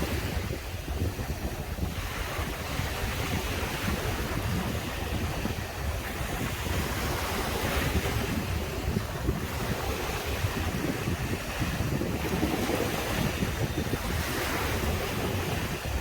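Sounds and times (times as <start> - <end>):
sea waves breaking on beach: 0.0 - 16.0
wind buffeting microphone: 0.0 - 16.0.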